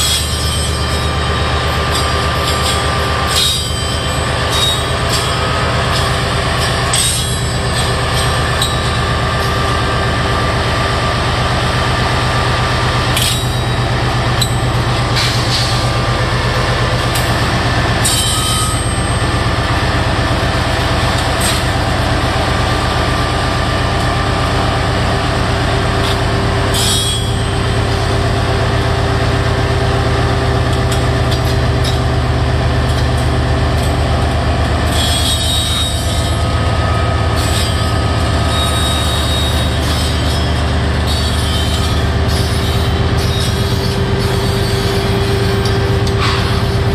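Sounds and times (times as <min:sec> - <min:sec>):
diesel locomotive engine drone: 0:00.0 - 0:46.9.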